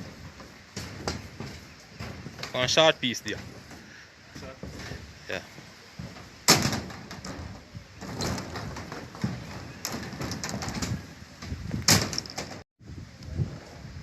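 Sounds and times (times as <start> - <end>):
building work knocks and clatter: 0.0 - 12.6.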